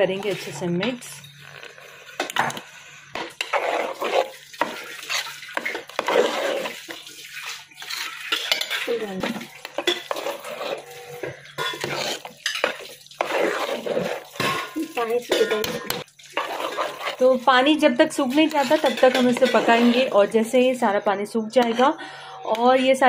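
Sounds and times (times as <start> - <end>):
metal spoon scraping a metal pot: 0.1 - 20.8, 21.5 - 23.0.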